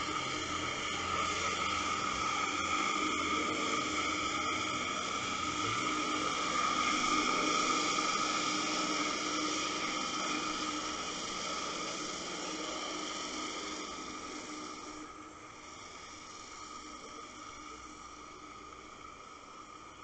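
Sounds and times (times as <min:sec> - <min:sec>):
faint steady hum: 0:00.0 - 0:20.0
underwater hiss: 0:00.0 - 0:20.0.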